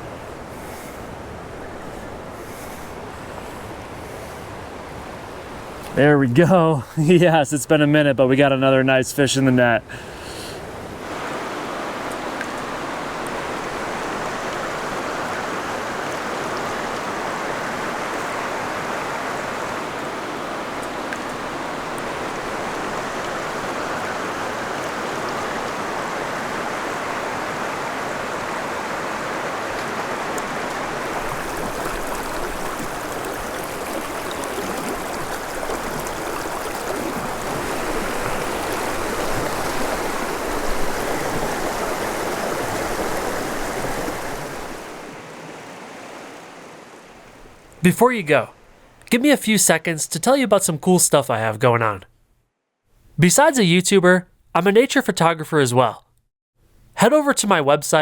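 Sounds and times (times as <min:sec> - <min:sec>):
creek water rushing: 0:00.0 - 0:52.0.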